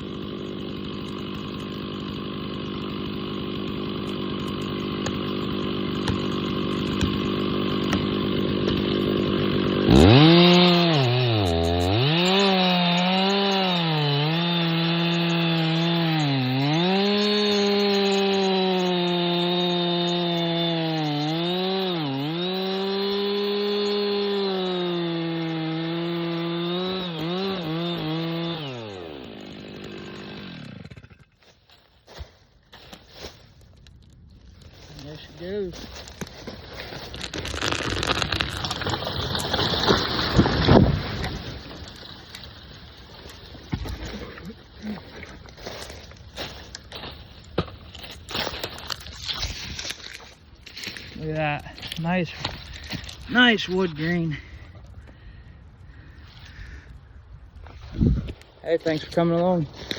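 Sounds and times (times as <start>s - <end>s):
chainsaw cutting wood: 0.0s - 54.6s, 57.6s - 59.9s.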